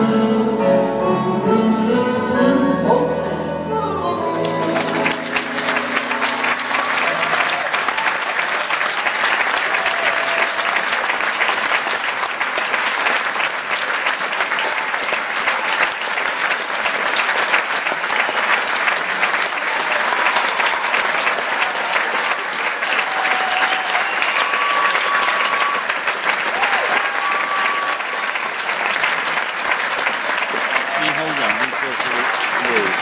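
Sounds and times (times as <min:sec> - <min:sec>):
audience applauding: 0:04.3 - 0:33.0.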